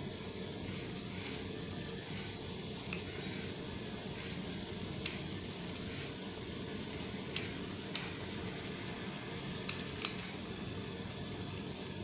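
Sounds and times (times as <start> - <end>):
toy car motor whirring: 0.0 - 11.4.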